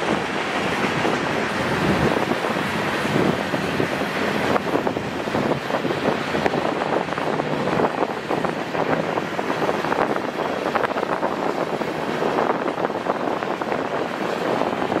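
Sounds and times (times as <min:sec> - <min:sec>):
freight cars rattling on rails: 0:00.0 - 0:15.0.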